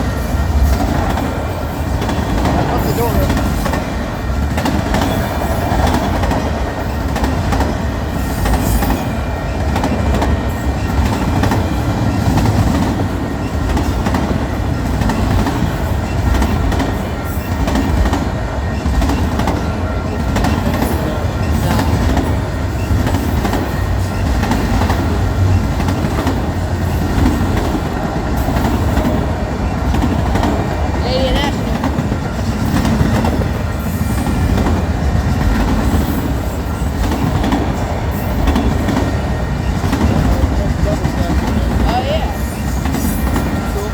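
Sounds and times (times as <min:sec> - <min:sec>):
freight train rumbling: 0:00.0 - 0:43.9.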